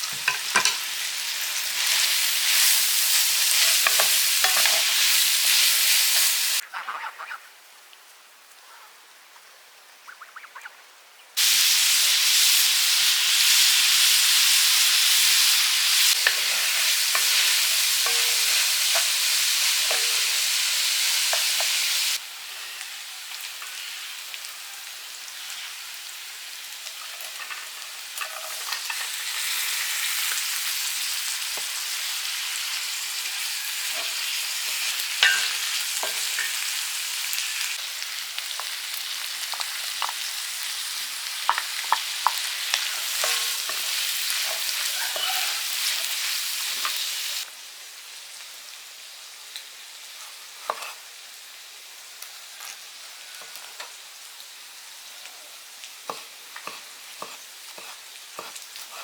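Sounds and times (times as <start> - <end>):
food sizzling in a hot pan: 0.0 - 6.6, 11.4 - 59.0.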